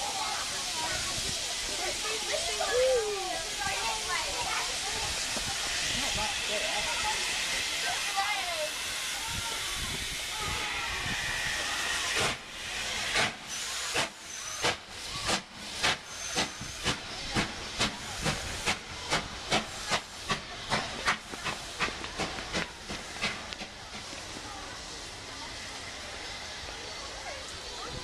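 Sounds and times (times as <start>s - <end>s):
steam hissing: 0.0s - 28.0s
steam locomotive exhaust chuffs: 3.3s - 27.9s.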